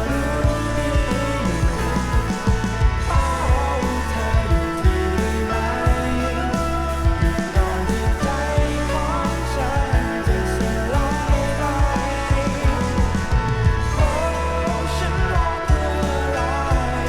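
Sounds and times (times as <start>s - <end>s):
rock music from vinyl record: 0.0s - 17.0s.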